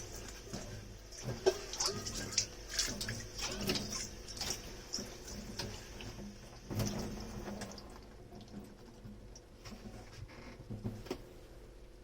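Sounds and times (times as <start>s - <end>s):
tap water running: 0.0s - 10.0s.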